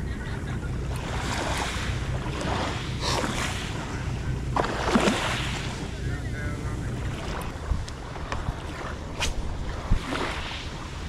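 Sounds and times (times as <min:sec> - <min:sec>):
boat engine hum: 0:00.0 - 0:11.0
wind buffeting microphone: 0:00.0 - 0:11.0.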